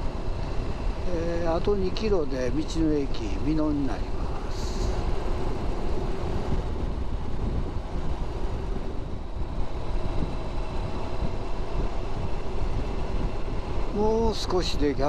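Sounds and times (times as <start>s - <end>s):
wind rushing: 0.0s - 14.3s
motorcycle engine hum: 0.0s - 15.0s.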